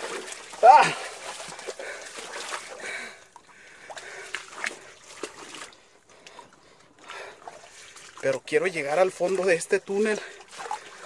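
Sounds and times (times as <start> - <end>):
footsteps splashing through water: 0.0 - 11.0.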